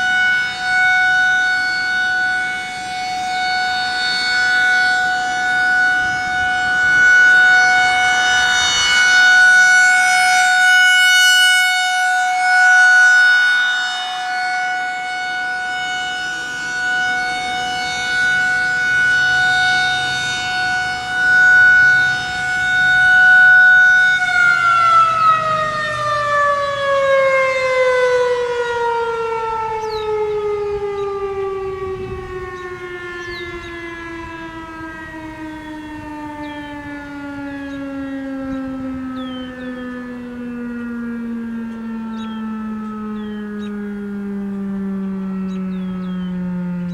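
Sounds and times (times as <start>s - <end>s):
rotating warning siren: 0.0s - 46.9s.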